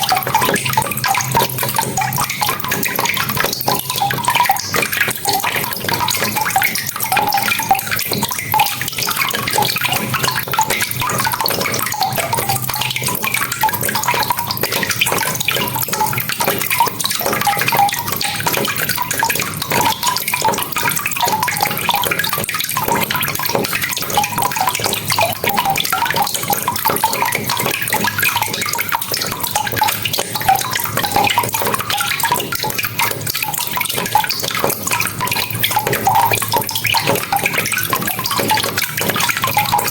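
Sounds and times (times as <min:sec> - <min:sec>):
water splashing and running: 0:00.0 - 0:39.9.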